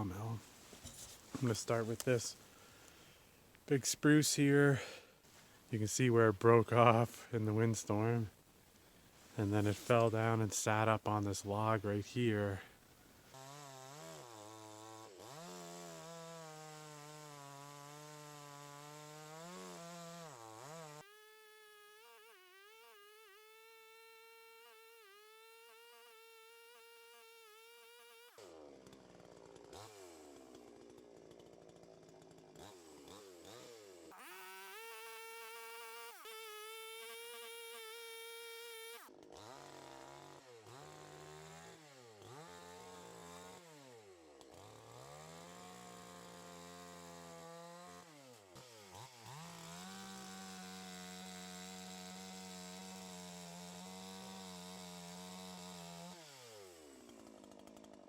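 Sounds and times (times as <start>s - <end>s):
chainsaw revving: 0.0s - 3.2s, 3.9s - 8.3s, 9.2s - 58.0s
chainsaw cutting into log: 0.0s - 3.5s, 12.2s - 58.0s.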